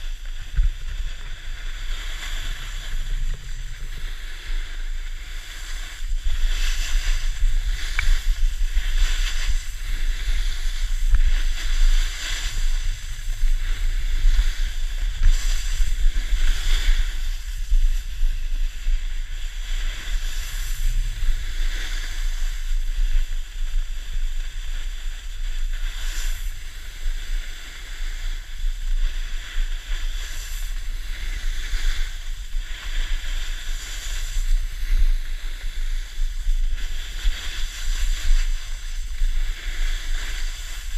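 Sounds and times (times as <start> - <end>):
skis carving over snow: 0.0 - 40.9
wind buffeting microphone: 0.0 - 40.9.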